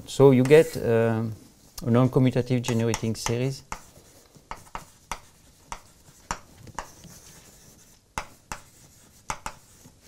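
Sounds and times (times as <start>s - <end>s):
chalk tapping and scraping: 0.4s - 0.8s, 1.4s - 10.0s.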